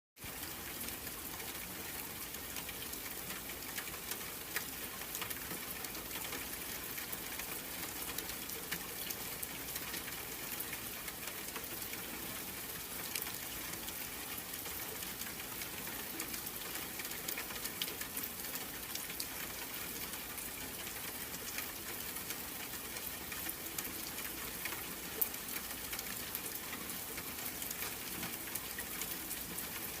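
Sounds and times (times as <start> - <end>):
steady rain pattering: 0.2 - 30.0.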